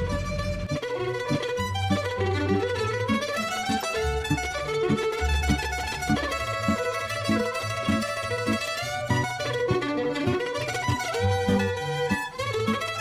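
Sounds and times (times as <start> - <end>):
plucked strings and fiddle music: 0.0 - 13.0.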